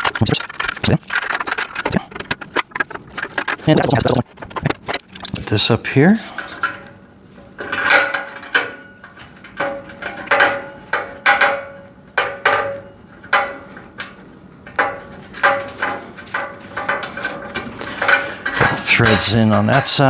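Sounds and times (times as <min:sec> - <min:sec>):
steel parts clinking and clanking: 0:00.0 - 0:20.0.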